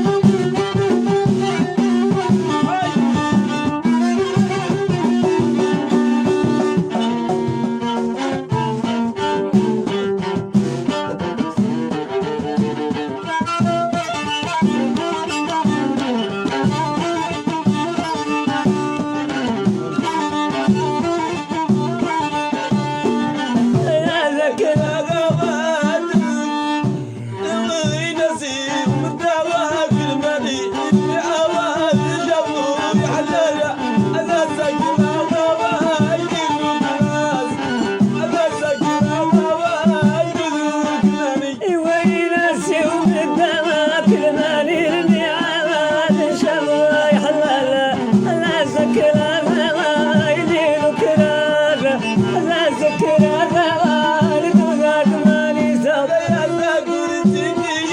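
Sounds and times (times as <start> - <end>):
person singing: 0.0 - 10.0, 10.8 - 57.9
folk melody: 0.0 - 57.9
hand drum beat: 0.0 - 57.9.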